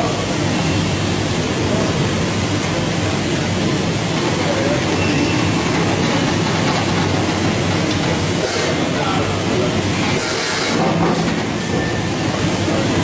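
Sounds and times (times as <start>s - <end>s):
conveyor machinery rumble and clatter: 0.0s - 13.0s.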